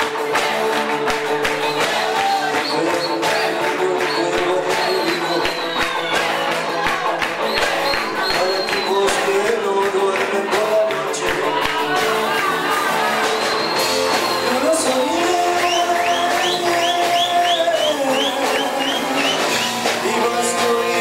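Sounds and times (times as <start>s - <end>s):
music with singing: 0.0s - 21.0s.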